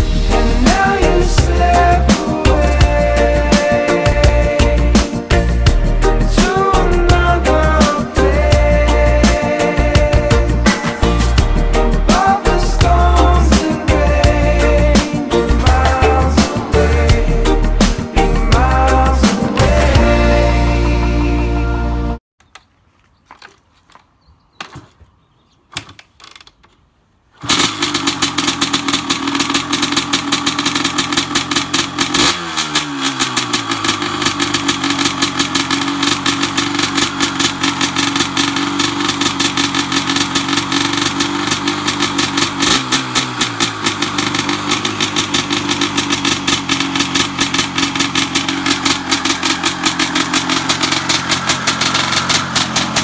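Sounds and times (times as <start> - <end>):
two-stroke motorcycle engine running: 0.0 - 20.9, 27.4 - 53.0.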